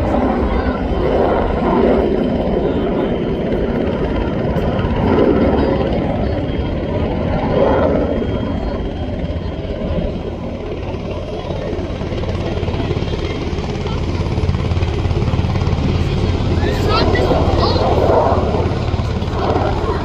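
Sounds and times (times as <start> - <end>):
aircraft engine rumble: 0.0 - 20.0.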